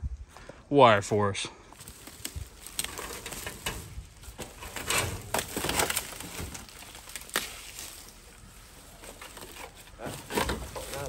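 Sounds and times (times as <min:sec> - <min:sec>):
leaves rustling: 0:01.7 - 0:11.0
branches being dragged: 0:01.8 - 0:11.0
twigs snapping: 0:01.8 - 0:11.0.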